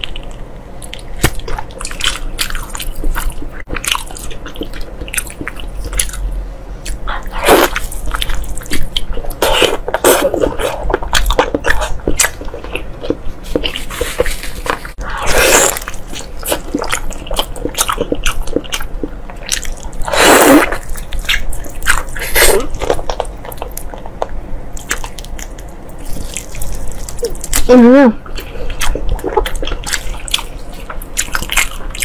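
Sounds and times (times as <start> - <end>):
wet chewing mouth sounds: 0.0 - 32.0.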